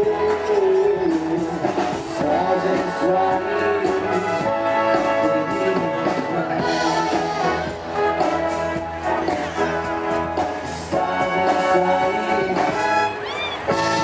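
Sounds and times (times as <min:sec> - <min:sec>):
concert band playing brass melody: 0:00.0 - 0:14.0.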